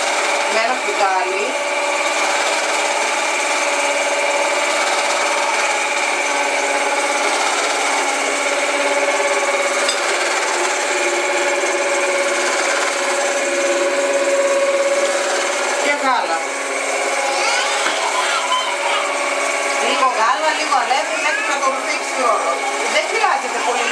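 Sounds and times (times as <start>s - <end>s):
beaters churning batter: 0.0s - 23.9s
stand mixer motor humming: 0.0s - 23.9s.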